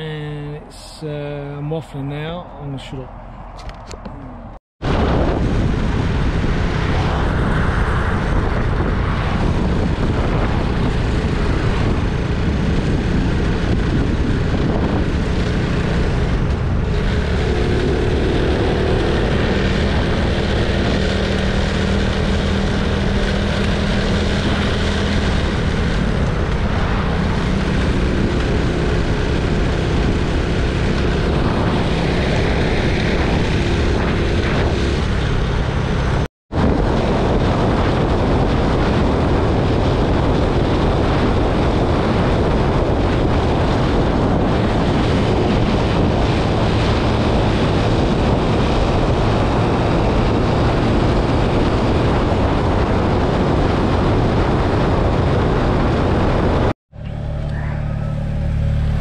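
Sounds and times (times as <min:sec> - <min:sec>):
wind rush on microphone: 0:02.2 - 0:56.8
motorcycle engine cruising: 0:03.4 - 0:59.0.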